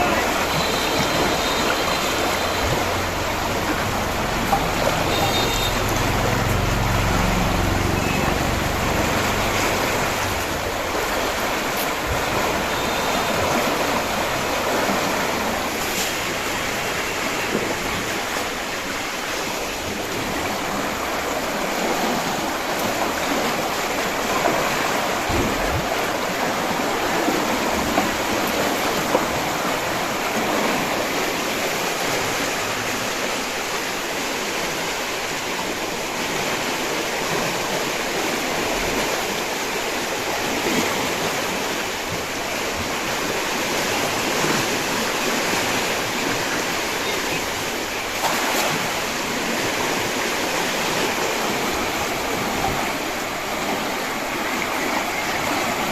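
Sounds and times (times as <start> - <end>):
floodwater rushing through sluice: 0.0 - 55.9.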